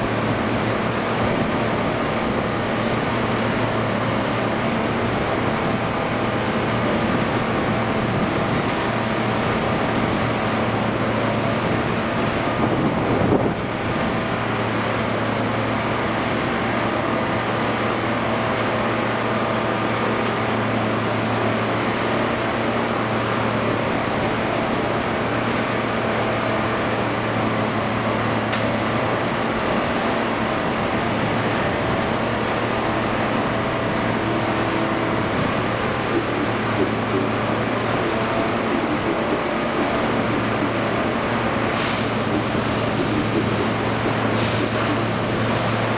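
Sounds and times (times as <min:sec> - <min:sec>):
heavy engine droning: 0:00.0 - 0:45.9.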